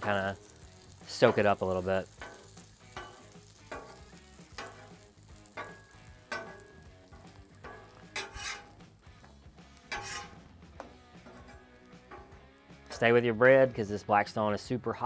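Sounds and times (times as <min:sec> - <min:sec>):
butter sizzling on a griddle: 0:00.0 - 0:14.2.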